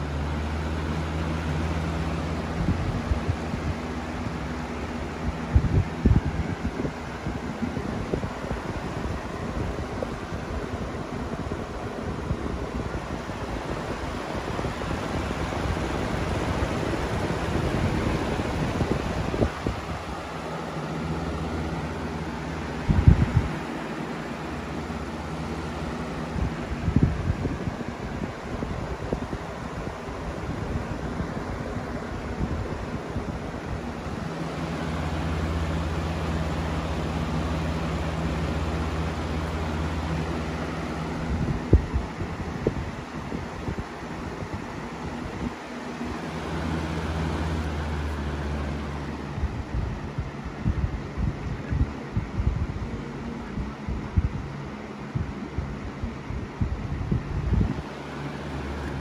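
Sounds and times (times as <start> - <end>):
box fan rushing air: 0.0 - 59.0.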